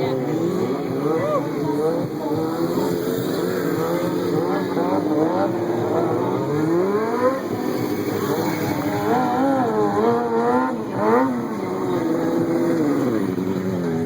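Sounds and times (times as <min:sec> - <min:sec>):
engine revving at high revs: 0:00.0 - 0:14.0.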